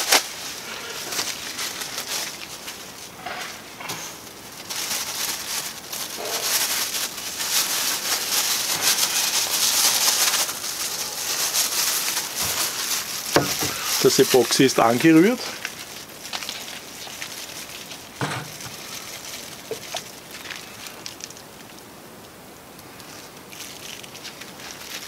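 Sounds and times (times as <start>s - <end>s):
plastic gloves crinkling: 0.0s - 25.0s.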